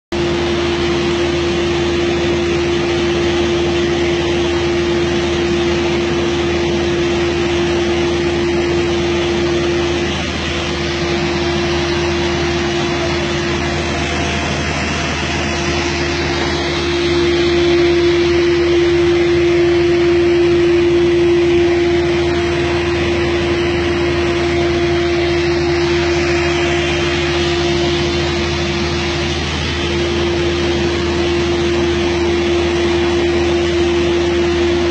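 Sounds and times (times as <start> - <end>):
panel saw humming: 0.1 - 34.9.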